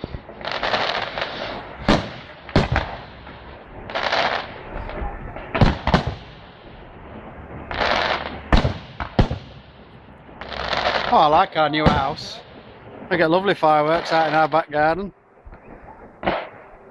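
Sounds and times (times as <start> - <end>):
firework bangs: 0.0 - 16.9
firework rushing hisses: 0.0 - 16.9.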